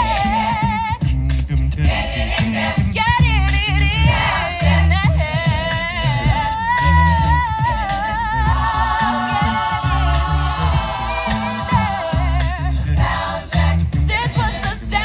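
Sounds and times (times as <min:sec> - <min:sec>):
a cappella group singing: 0:00.0 - 0:15.0
pulsing bass voice: 0:00.0 - 0:15.0.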